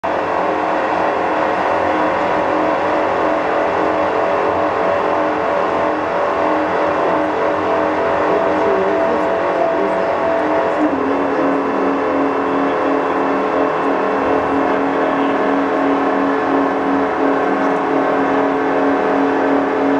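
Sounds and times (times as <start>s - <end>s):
pipe threading lathe running: 0.0s - 19.9s.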